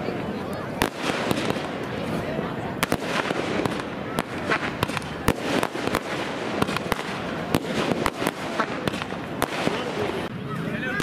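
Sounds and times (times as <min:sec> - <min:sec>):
fireworks bangs and cracks: 0:00.6 - 0:11.0.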